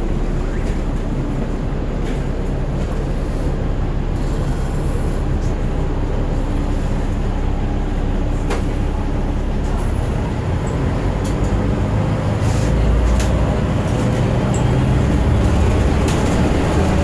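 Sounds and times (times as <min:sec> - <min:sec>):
bus diesel engine drone: 0:00.0 - 0:17.0
road rumble: 0:00.0 - 0:17.0.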